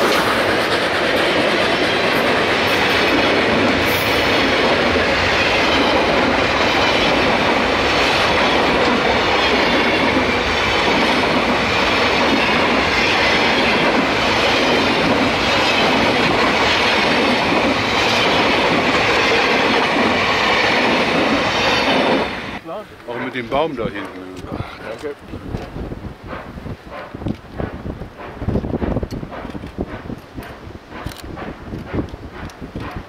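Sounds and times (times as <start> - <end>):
train wheels rumbling over rails: 0.0 - 33.0.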